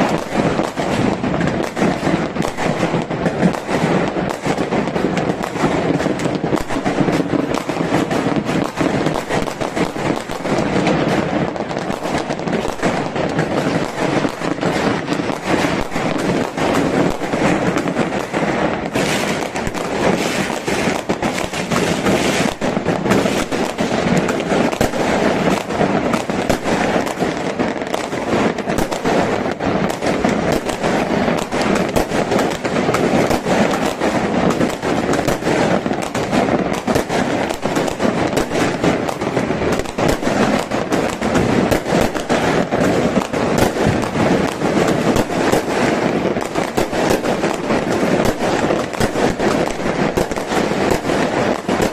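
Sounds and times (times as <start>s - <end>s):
fireworks crackling and banging: 0.0s - 51.9s.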